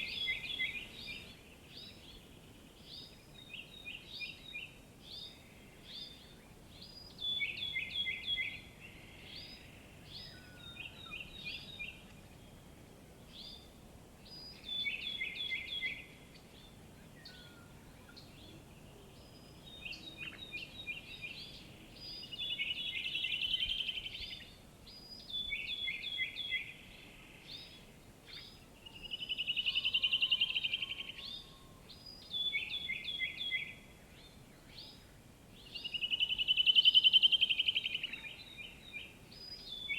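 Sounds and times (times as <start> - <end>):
faint outdoor background: 0.0 - 39.9
songbirds chirping: 0.0 - 39.9.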